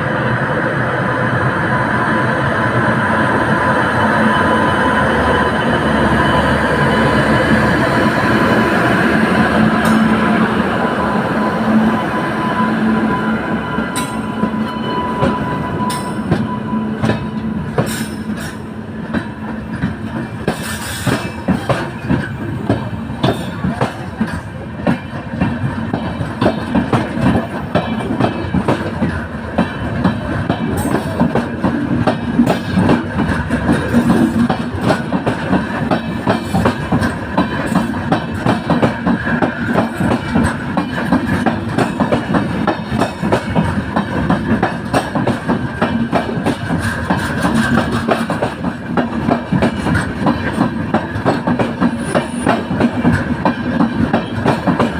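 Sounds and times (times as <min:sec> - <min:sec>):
train wheels clicking on rails: 0:00.7 - 0:54.9.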